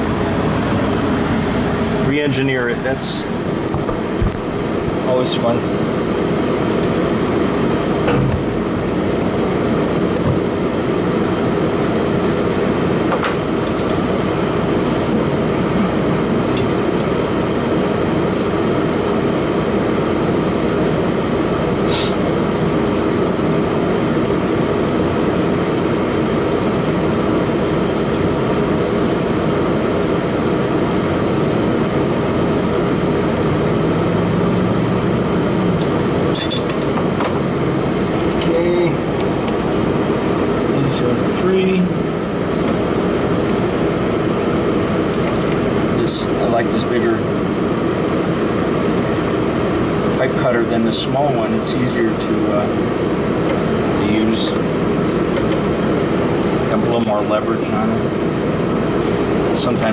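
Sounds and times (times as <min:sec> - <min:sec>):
machinery droning: 0:00.0 - 0:59.9.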